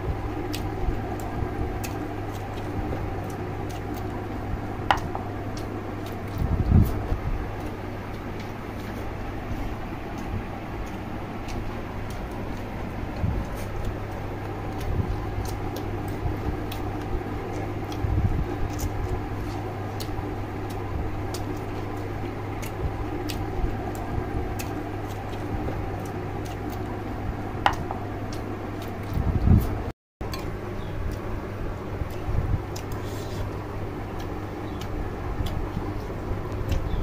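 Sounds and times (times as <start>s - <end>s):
steady low hum: 0.0s - 37.0s
wet chewing and lip-smacking: 0.1s - 37.0s.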